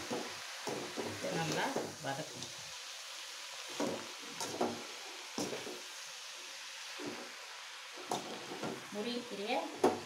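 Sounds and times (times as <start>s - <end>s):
leaves sizzling in a pan: 0.0s - 10.0s.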